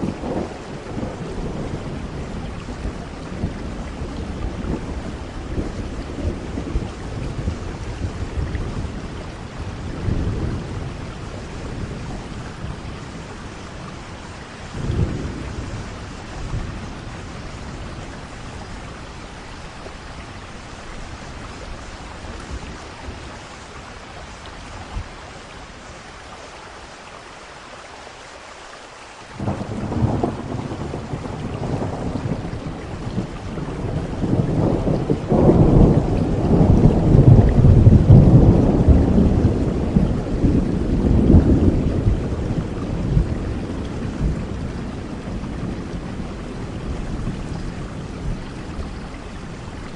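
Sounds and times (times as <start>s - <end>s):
rolling thunder: 0.0s - 23.6s, 29.4s - 49.9s
steady rain: 0.0s - 49.9s.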